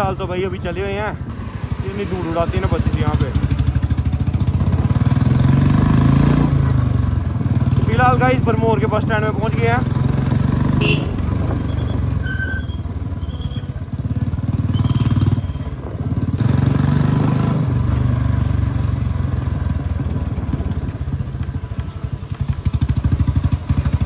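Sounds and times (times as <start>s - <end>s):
motorcycle engine with loud exhaust: 0.0s - 24.0s.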